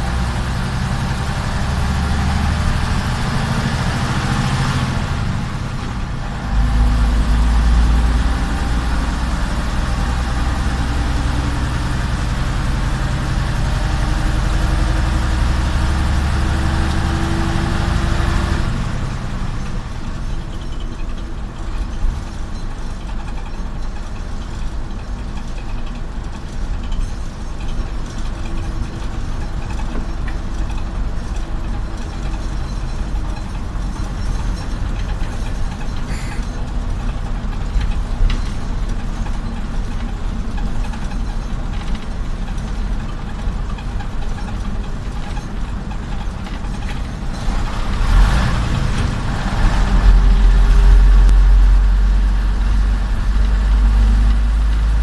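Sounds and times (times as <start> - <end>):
bus diesel engine from inside: 0.0 - 55.0.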